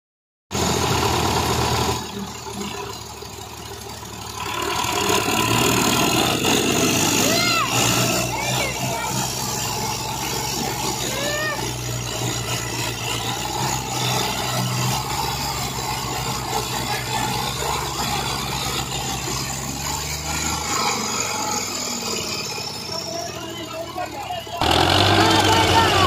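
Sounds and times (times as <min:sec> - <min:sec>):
tractor engines droning under load: 0:00.5 - 0:26.0.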